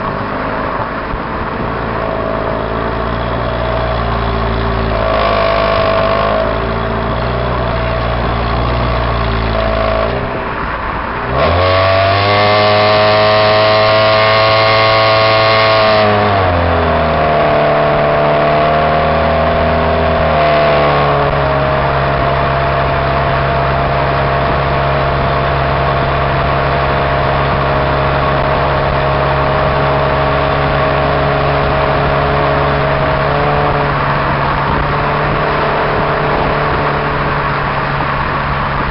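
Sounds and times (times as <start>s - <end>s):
car exhaust engine accelerating: 0.0s - 38.9s.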